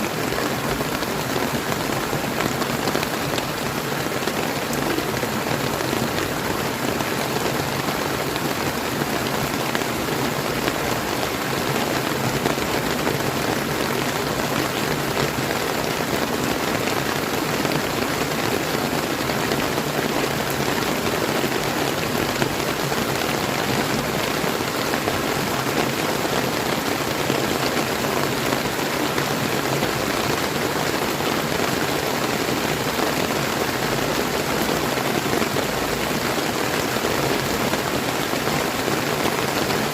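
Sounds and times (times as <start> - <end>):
rain falling: 0.0 - 39.9
river water flowing: 0.0 - 39.9.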